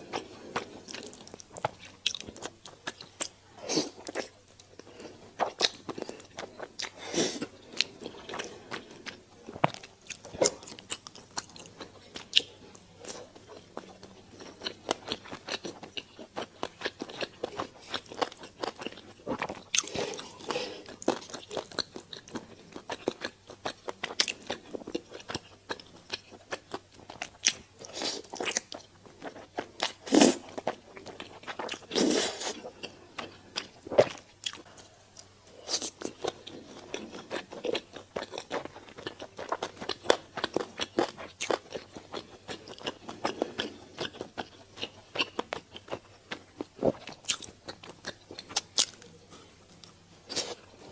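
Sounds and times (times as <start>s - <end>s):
person chewing and biting: 0.1s - 34.7s, 35.6s - 49.1s.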